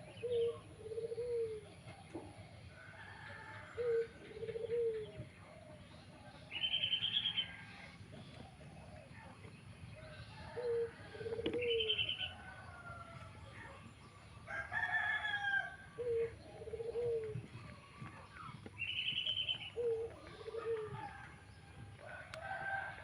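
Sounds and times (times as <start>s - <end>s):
dove cooing: 0.0s - 9.4s, 10.4s - 12.8s, 15.9s - 22.8s.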